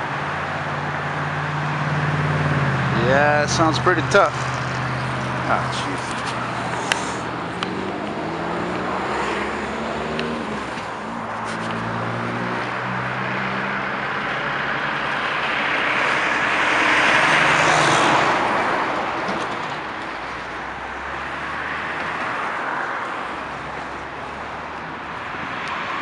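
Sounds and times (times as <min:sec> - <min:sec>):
diesel engine hum: 0:00.0 - 0:26.0
semi-truck passing: 0:00.0 - 0:26.0.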